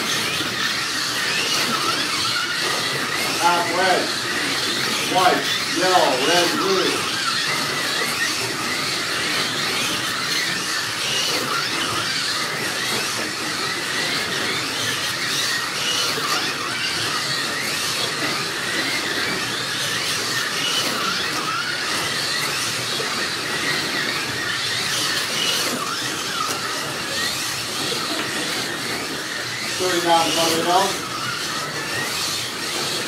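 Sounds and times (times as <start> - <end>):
slot car motors whining: 0.0 - 33.0.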